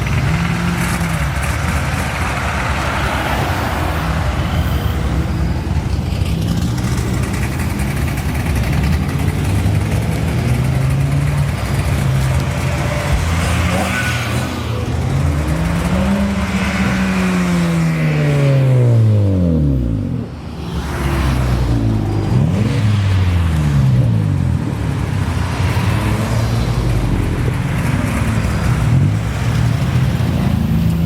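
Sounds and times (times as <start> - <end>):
cars driving past: 0.0 - 31.0.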